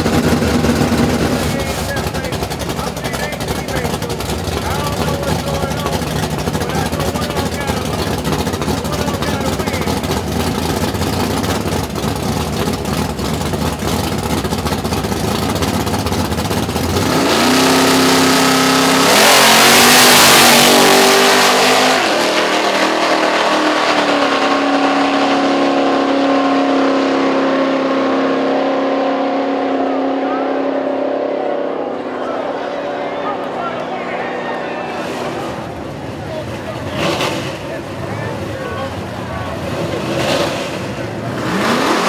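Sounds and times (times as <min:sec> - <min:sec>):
drag car engines revving and launching: 0:00.0 - 0:42.0.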